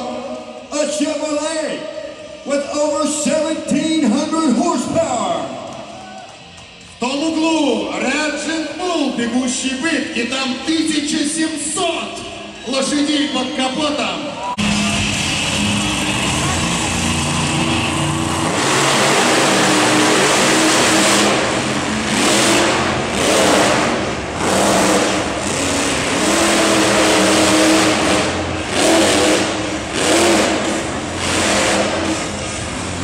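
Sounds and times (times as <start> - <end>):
monster truck engines revving: 0.0 - 33.0.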